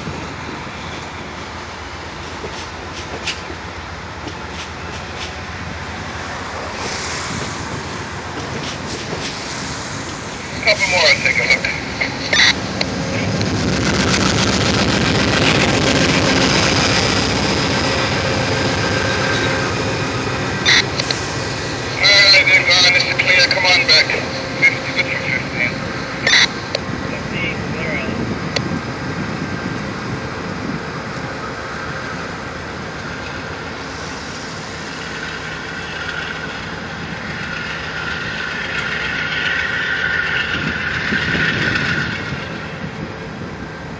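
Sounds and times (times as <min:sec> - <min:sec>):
diesel locomotive engine running: 0:00.0 - 0:43.9
train wheels rumbling on rails: 0:00.0 - 0:43.9.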